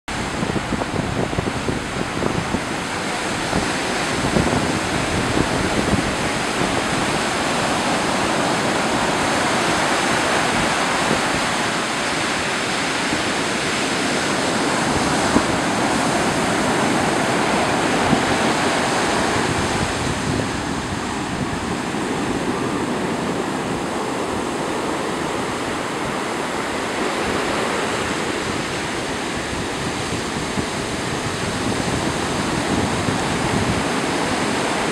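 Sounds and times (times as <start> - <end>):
surf breaking on beach: 0.1 - 34.9.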